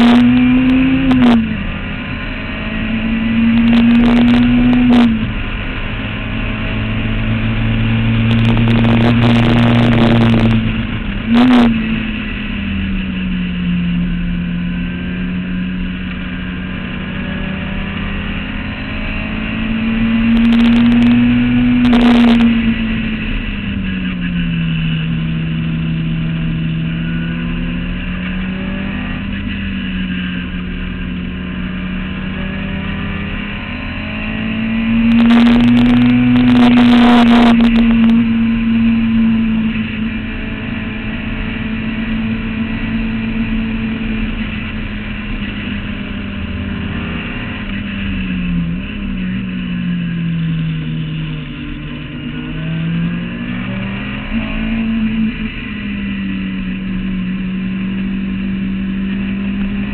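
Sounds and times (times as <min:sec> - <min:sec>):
racing car engine revving: 0:00.0 - 0:59.9
wind and road noise: 0:00.0 - 0:59.9.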